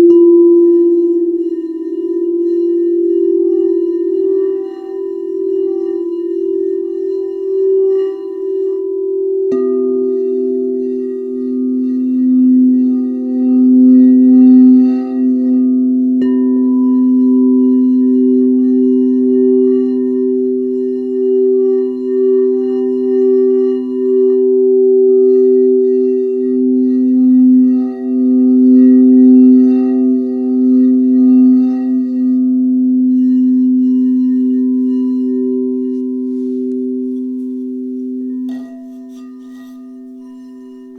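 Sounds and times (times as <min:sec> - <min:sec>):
singing bowl struck: 0:00.0 - 0:22.4, 0:25.2 - 0:40.9
singing bowls ringing: 0:00.0 - 0:40.9.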